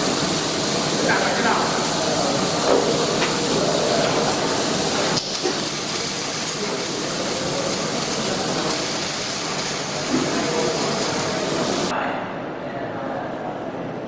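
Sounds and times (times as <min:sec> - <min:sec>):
welding machine hiss: 0:00.0 - 0:11.9.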